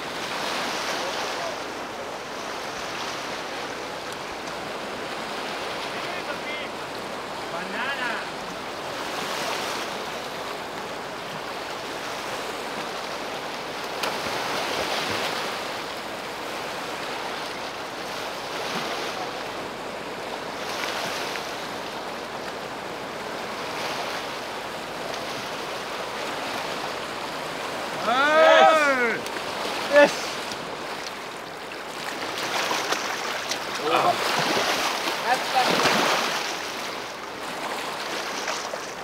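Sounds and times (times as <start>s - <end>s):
river rapids rushing: 0.0s - 39.0s.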